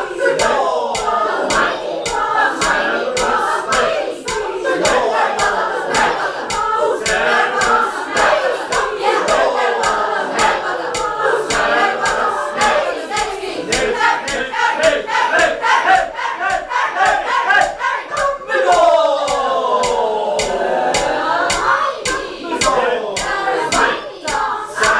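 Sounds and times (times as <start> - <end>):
mixed choir chanting a cappella: 0.0 - 24.9
sharp rhythmic clicks: 0.0 - 24.9.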